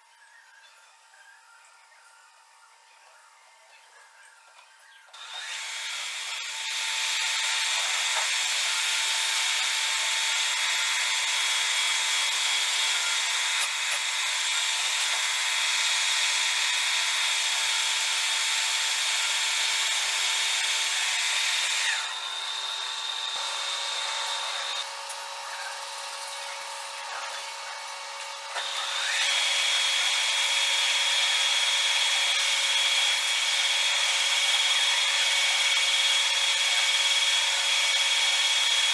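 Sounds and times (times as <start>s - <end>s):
metal lathe cutting: 5.2s - 38.9s.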